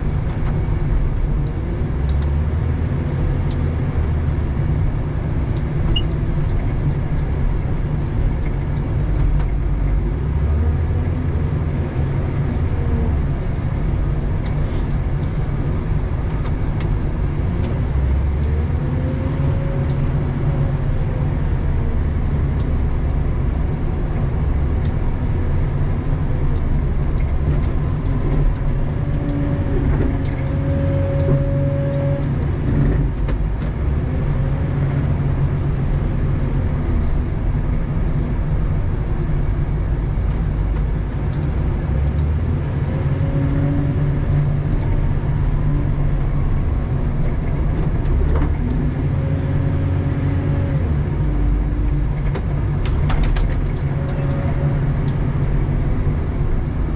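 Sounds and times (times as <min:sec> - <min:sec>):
wheel loader diesel engine: 0:00.0 - 0:56.9.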